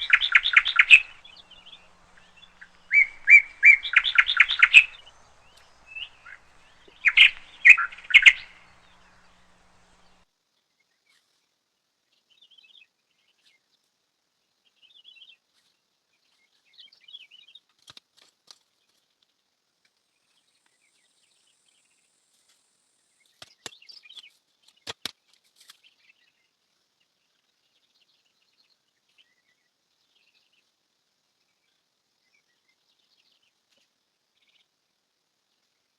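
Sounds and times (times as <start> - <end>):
small birds chirping: 0.0 - 17.8, 23.2 - 35.9.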